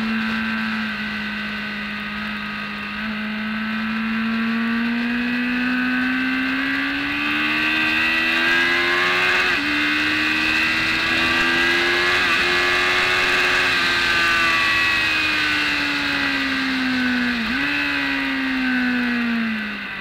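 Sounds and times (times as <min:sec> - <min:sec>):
motorcycle engine accelerating hard: 0:00.0 - 0:20.0.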